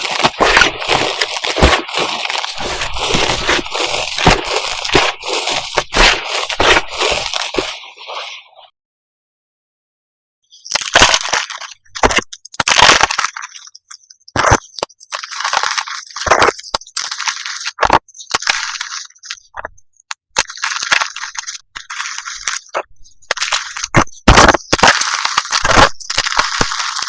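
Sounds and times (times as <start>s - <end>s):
chalk crunching and crackling: 0.0s - 8.5s, 10.6s - 27.0s.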